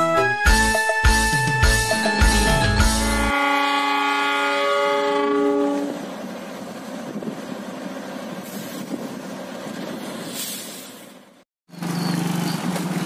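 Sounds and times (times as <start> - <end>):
diesel locomotive rumbling: 1.7 - 13.0.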